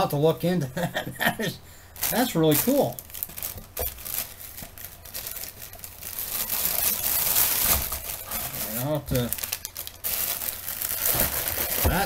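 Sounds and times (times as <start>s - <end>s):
plastic packaging crinkling: 2.0s - 12.0s.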